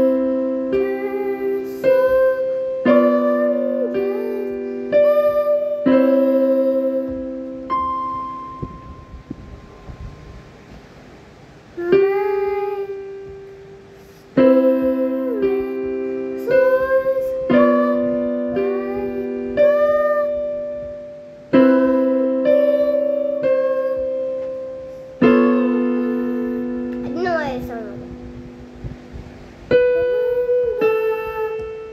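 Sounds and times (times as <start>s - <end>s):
girl singing: 0.0s - 10.1s, 11.7s - 31.9s
piano chords: 0.0s - 31.9s.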